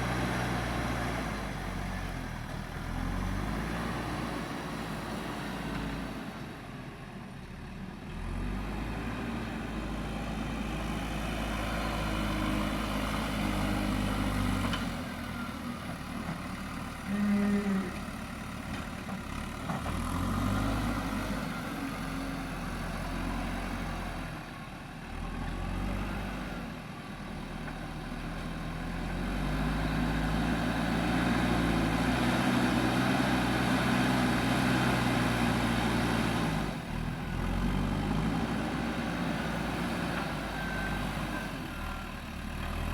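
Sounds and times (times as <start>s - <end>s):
diesel engine working under load: 0.0s - 42.9s.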